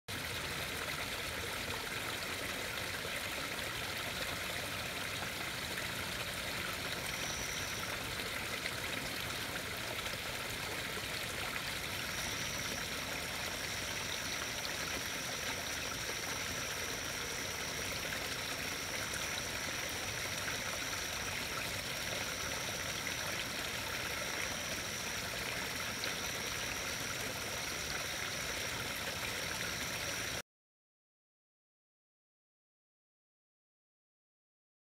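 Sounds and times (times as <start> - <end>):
water trickling into pond: 0.1 - 30.4.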